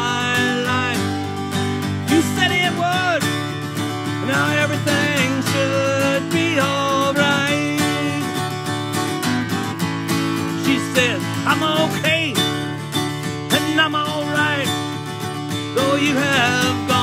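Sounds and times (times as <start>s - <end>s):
man singing: 0.0s - 8.8s, 10.4s - 17.0s
acoustic guitar strumming: 0.0s - 17.0s.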